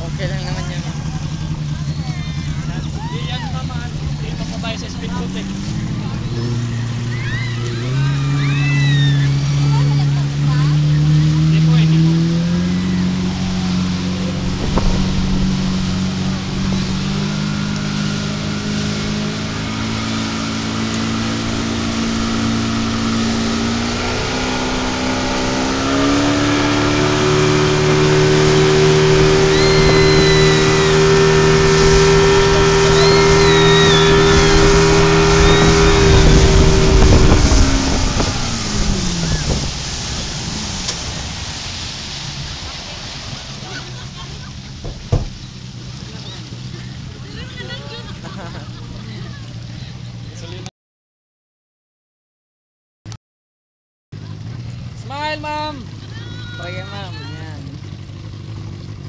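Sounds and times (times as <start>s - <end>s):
rushing water and wind: 0.0s - 50.6s
speedboat engine: 0.0s - 50.7s, 54.2s - 59.0s.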